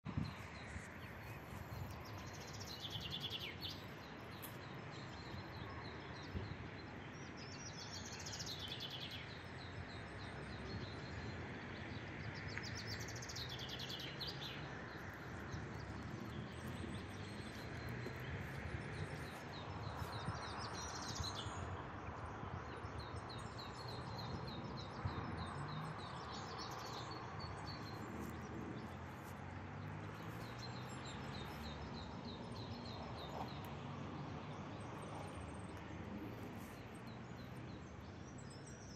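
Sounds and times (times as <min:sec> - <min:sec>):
outdoor background noise: 0:00.0 - 0:38.9
songbird singing: 0:00.1 - 0:38.9.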